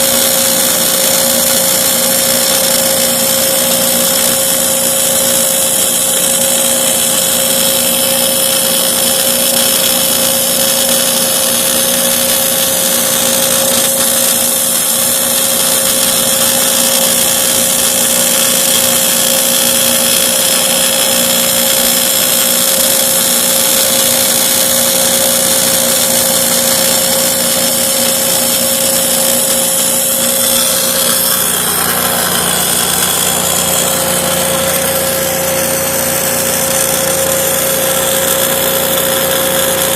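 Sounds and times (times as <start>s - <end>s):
boring machine motor whine: 0.0s - 39.9s.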